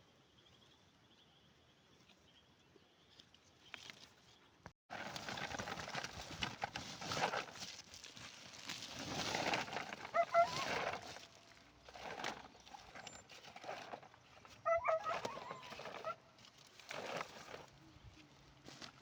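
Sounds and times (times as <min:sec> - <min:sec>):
plants and leaves rustling: 0:03.1 - 0:19.0.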